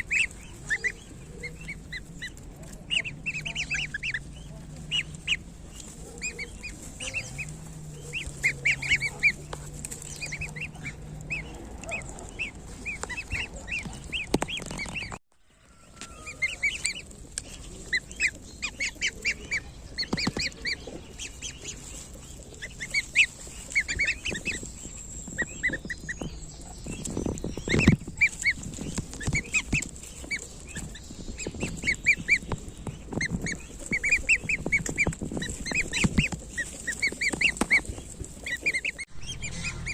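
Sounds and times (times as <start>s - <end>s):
goslings peeping: 0.0s - 39.9s.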